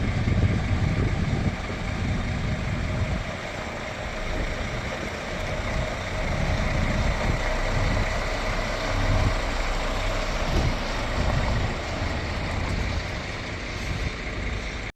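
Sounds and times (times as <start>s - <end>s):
engine whine: 0.0s - 14.9s
truck diesel engine rumbling: 0.0s - 14.9s.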